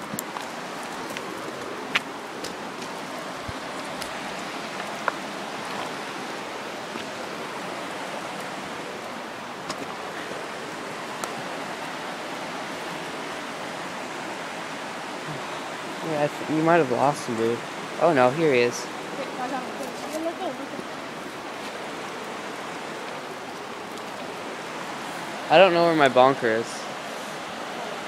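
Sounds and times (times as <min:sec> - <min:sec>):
creek flowing over rocks: 0:00.0 - 0:28.0.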